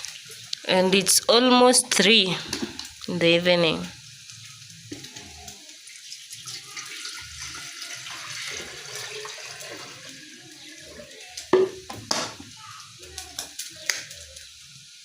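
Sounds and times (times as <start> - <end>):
water pouring into pot: 0.0 - 3.1, 3.9 - 14.8.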